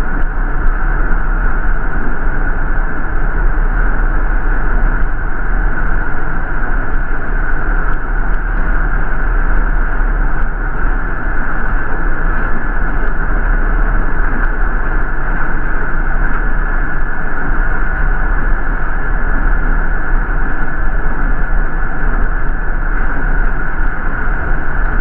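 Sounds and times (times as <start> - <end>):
bus engine rumble: 0.0 - 25.0
constant cabin hiss: 0.0 - 25.0.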